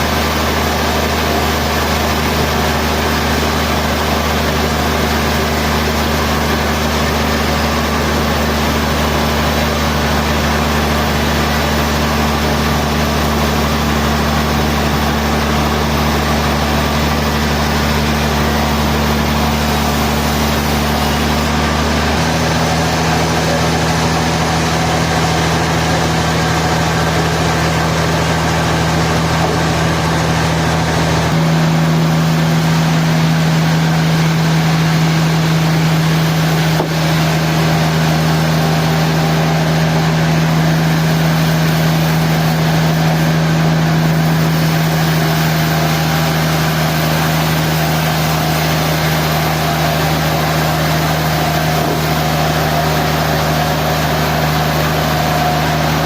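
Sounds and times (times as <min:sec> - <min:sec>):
machinery humming drone: 0:00.0 - 0:56.0.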